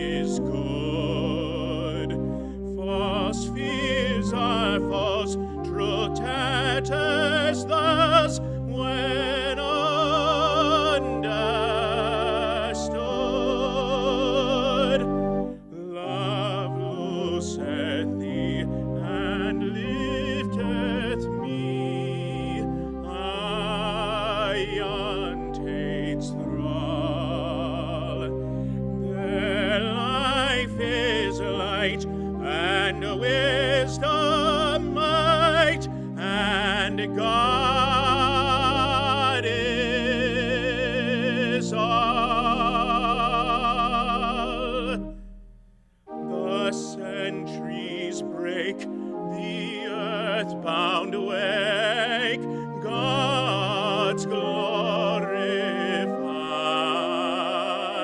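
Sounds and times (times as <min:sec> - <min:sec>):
man singing operatically: 0:00.0 - 0:28.4, 0:29.0 - 0:45.1, 0:46.2 - 0:58.0
sustained instrumental accompaniment: 0:00.0 - 0:58.0.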